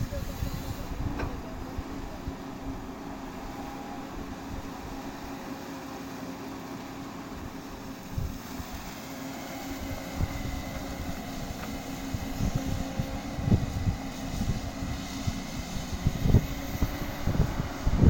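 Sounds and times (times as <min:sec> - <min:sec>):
backhoe diesel engine running: 0:00.0 - 0:18.0.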